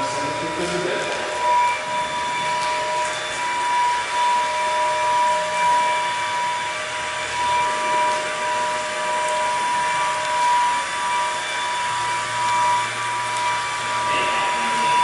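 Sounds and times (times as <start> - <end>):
machine running with whine: 0.0 - 15.0.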